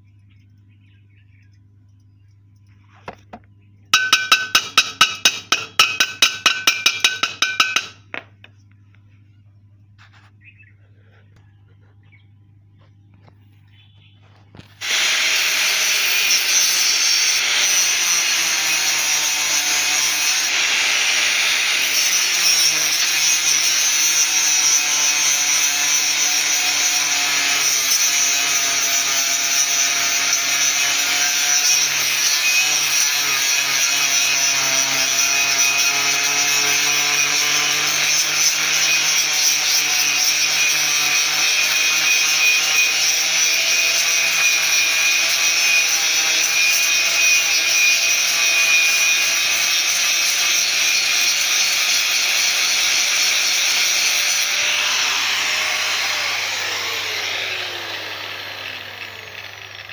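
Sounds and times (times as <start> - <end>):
angle grinder grinding metal: 2.6 - 9.1, 14.6 - 59.9.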